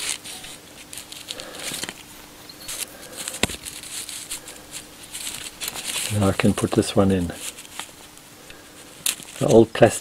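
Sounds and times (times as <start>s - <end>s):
small parts clicking and rustling: 0.0s - 10.0s.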